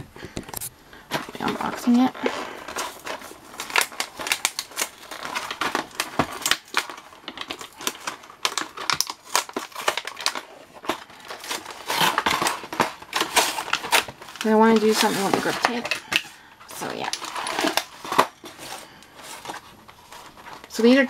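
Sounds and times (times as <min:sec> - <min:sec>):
plastic packaging crinkling: 0:00.5 - 0:21.0.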